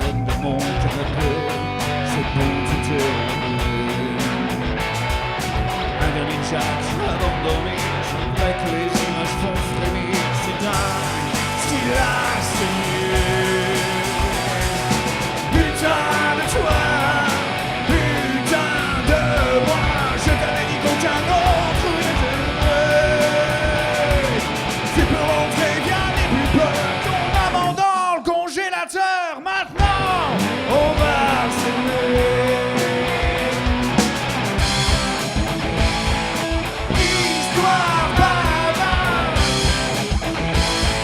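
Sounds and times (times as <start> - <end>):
bending guitar melody line: 0.0 - 28.0, 29.8 - 41.0
rock band playing: 0.0 - 28.1, 29.7 - 41.0.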